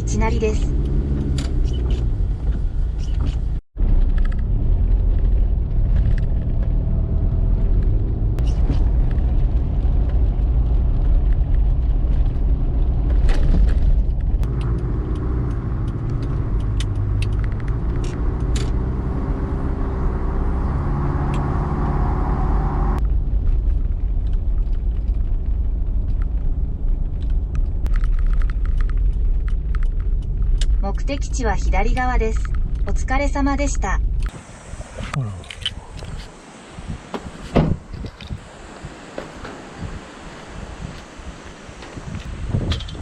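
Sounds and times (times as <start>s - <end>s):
car cabin road rumble: 0.0s - 43.0s.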